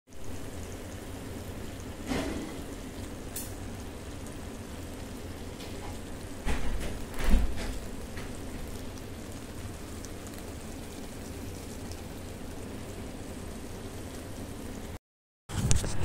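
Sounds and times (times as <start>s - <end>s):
chicken sizzling in a pan: 0.1s - 15.0s.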